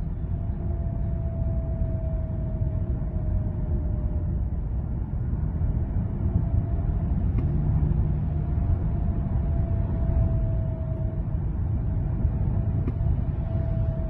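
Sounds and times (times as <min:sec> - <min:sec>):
faint thin whine: 0:00.0 - 0:14.0
road and tyre rumble: 0:00.0 - 0:14.0.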